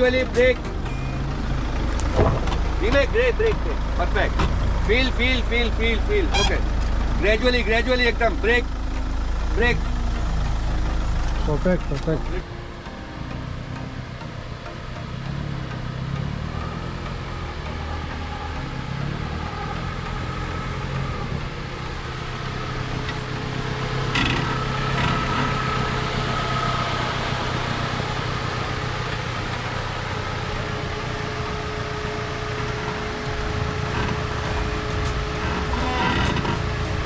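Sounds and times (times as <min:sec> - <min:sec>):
car engine running: 0:00.0 - 0:12.4, 0:18.8 - 0:37.0.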